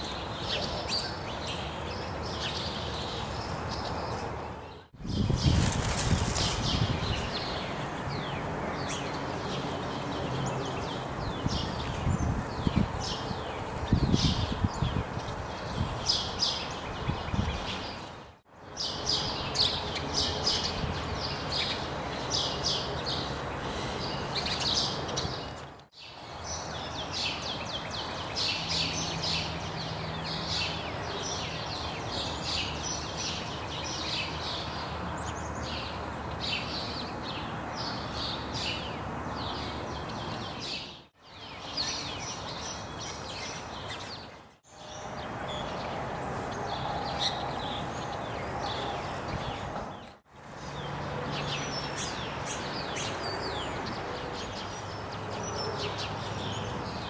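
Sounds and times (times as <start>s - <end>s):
songbirds chirping and twittering: 0.0s - 57.0s
steady outdoor noise: 0.0s - 57.0s.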